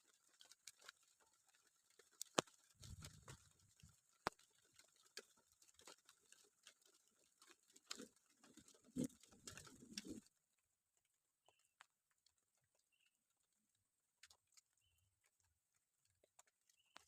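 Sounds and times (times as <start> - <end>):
raindrops dripping: 0.0 - 17.0.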